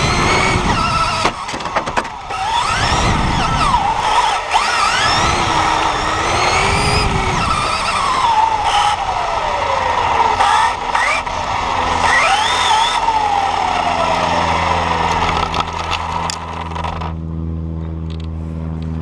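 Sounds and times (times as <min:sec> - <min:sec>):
toy car motors whining: 0:00.0 - 0:17.2.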